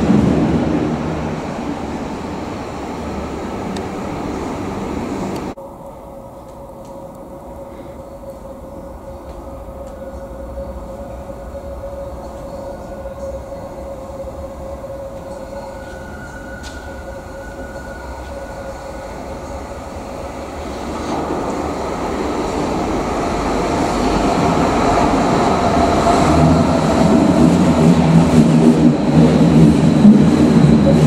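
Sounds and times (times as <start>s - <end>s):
train rumbling in tunnel: 0.0s - 31.0s.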